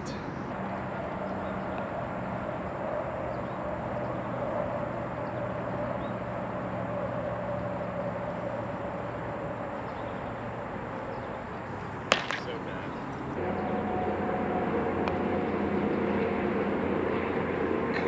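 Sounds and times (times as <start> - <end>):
distant motor hum: 0.0 - 18.0.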